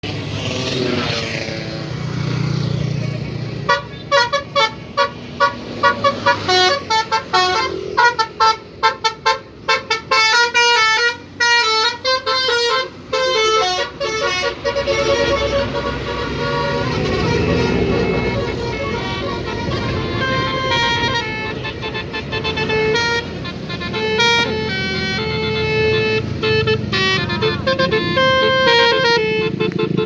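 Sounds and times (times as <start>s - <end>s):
multi-tone bus horn tune: 3.6s - 30.0s.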